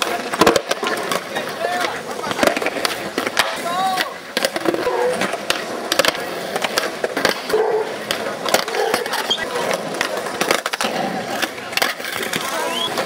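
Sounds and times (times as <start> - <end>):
skateboard clacks popping and landing: 0.0 - 13.0
skateboards rolling on concrete: 0.0 - 13.0.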